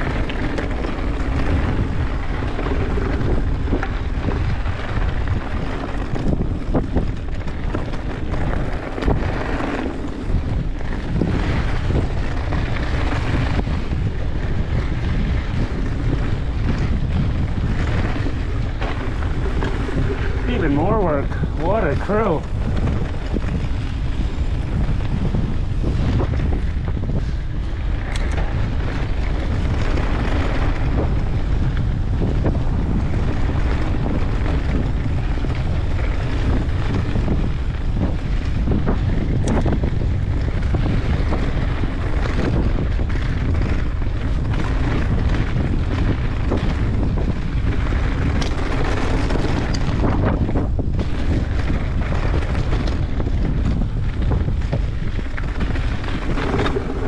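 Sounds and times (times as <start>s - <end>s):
bike knocks and rattles: 0.0s - 57.0s
wind buffeting microphone: 0.0s - 57.0s.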